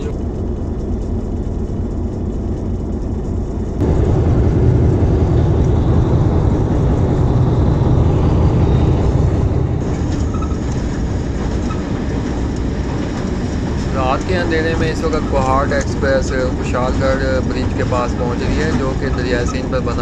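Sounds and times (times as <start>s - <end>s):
moving train rumble: 0.0s - 20.0s.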